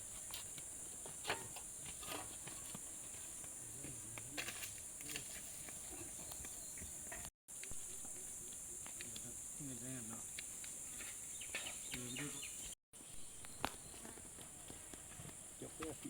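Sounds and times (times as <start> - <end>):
high-pitched insect chorus: 0.0 - 14.4.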